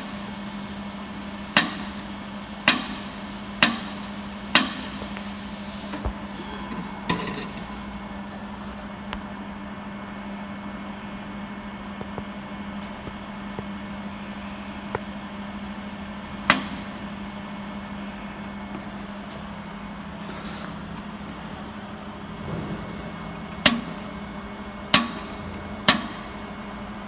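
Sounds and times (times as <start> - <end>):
laser welding machine hum: 0.0 - 27.0.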